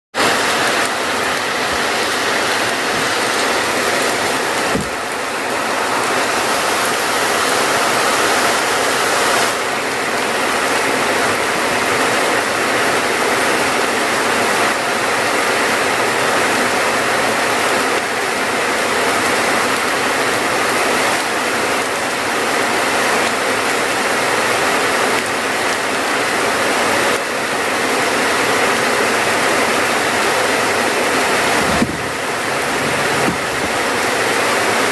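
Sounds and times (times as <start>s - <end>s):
heavy rainfall: 0.1s - 34.9s.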